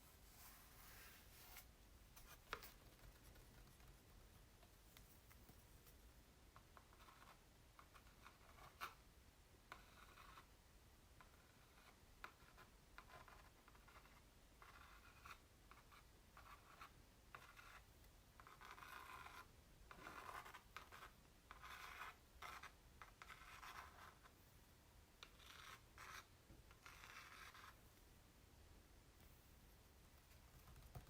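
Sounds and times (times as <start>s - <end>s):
faint scratching on canvas: 0.0s - 6.0s, 6.6s - 9.0s, 9.7s - 10.6s, 11.2s - 24.4s, 25.2s - 27.8s.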